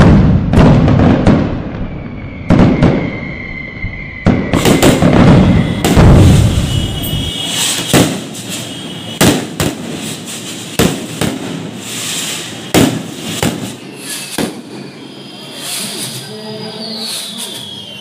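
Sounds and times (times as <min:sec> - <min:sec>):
fireworks bangs: 0:00.0 - 0:18.0
fireworks crackling and hissing: 0:00.0 - 0:18.0.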